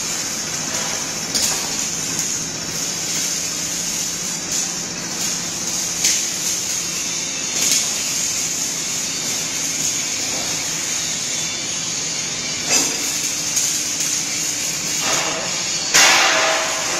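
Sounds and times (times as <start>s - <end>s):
industrial machinery hiss and hum: 0.0s - 16.9s.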